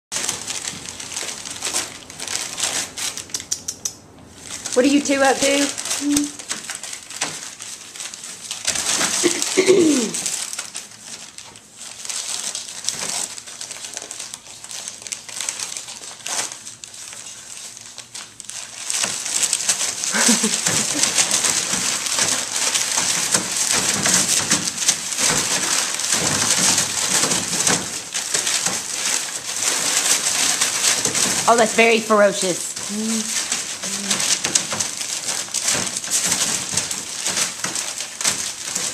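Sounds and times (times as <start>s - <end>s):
newspaper rustling and crinkling: 0.1s - 3.6s, 4.2s - 38.9s.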